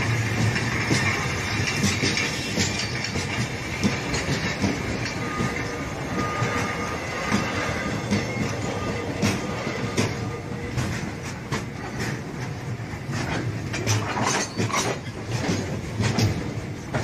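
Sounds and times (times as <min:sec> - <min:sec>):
train rumble: 0:00.0 - 0:17.0
wagon wheels clacking over rail joints: 0:00.0 - 0:17.0.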